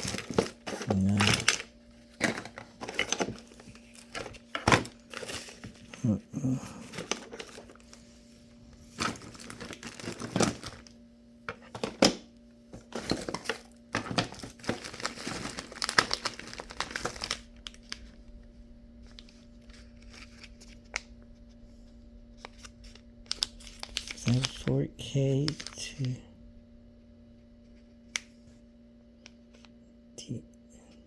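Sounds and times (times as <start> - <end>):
packaging crinkling and rustling: 0.0 - 26.2
steady low hum: 0.0 - 31.0.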